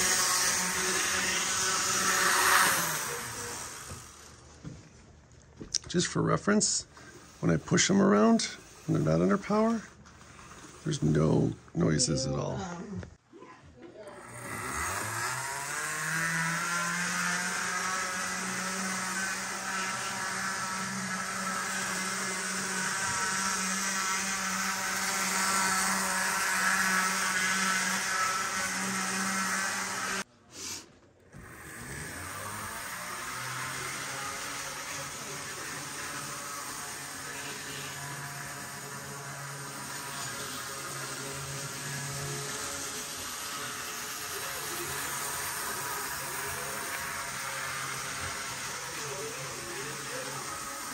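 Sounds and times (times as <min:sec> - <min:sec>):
model train motor whirring: 0:00.0 - 0:04.5, 0:05.8 - 0:12.8, 0:14.1 - 0:50.9.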